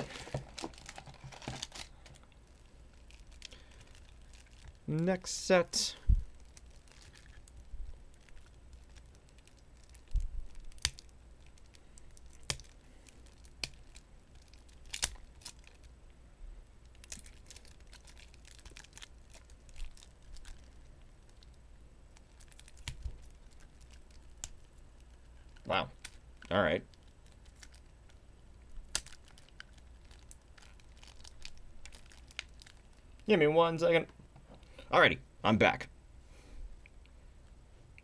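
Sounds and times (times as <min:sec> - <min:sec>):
foil wrapper crinkling: 0:00.0 - 0:15.9, 0:16.8 - 0:28.2, 0:28.8 - 0:33.3.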